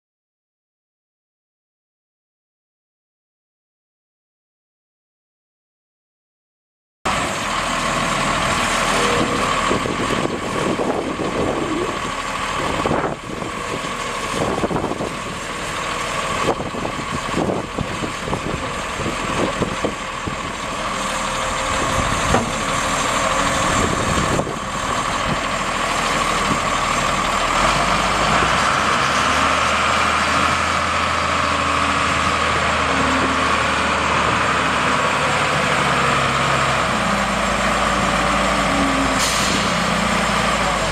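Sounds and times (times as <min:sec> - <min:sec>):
diesel engine running: 0:07.1 - 0:40.9.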